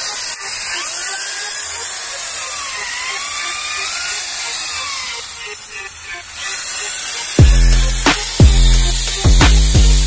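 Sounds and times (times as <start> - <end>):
rotary brush power tool whining: 0.0 - 10.0.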